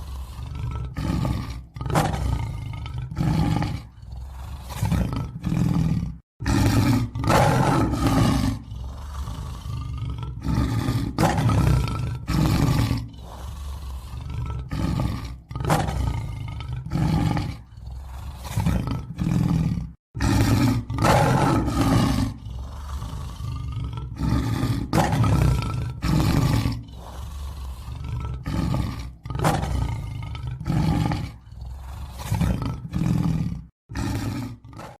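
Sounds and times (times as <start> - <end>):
lion roaring and growling: 0.0 - 35.0.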